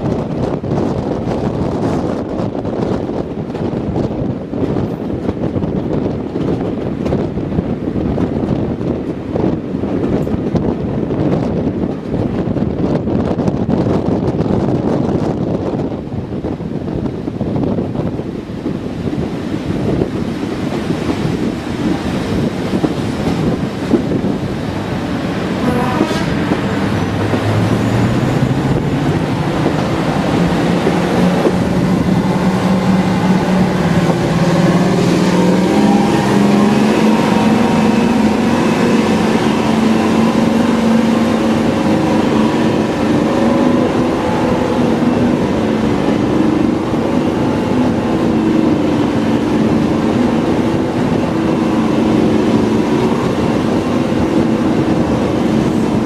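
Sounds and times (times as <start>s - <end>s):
diesel train engine running: 0.0s - 56.0s.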